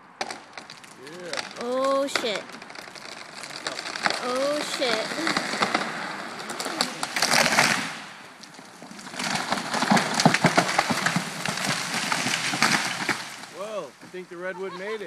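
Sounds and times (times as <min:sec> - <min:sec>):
falling tree branches cracking: 0:00.2 - 0:15.0.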